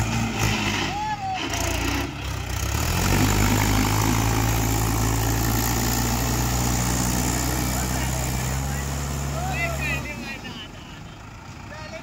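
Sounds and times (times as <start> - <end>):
tractor diesel engines revving: 0.0 - 12.0.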